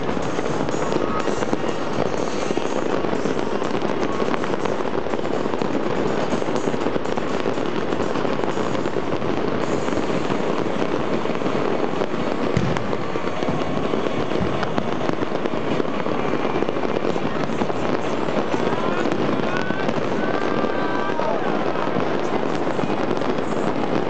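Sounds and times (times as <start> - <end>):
fireworks shells bursting: 0.0 - 24.0
fireworks stars crackling: 0.0 - 24.0.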